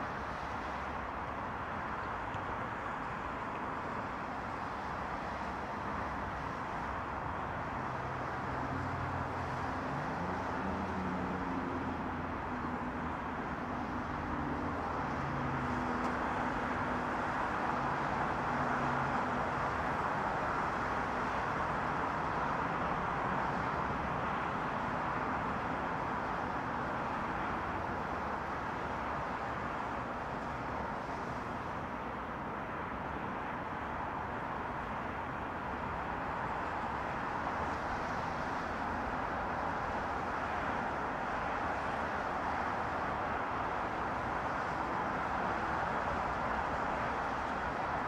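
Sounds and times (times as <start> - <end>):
distant highway traffic: 0.0 - 48.0.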